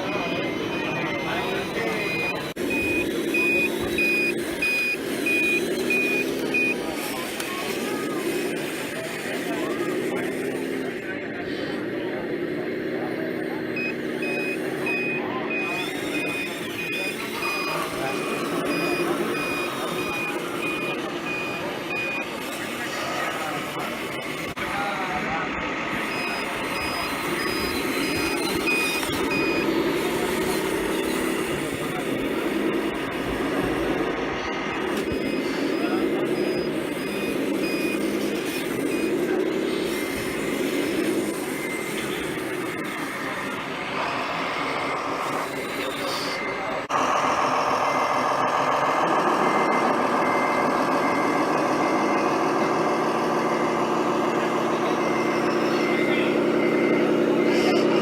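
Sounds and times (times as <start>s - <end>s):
high electronic reversing beeps: 0.0s - 11.8s, 13.0s - 58.0s
low engine-like drone: 0.0s - 58.0s.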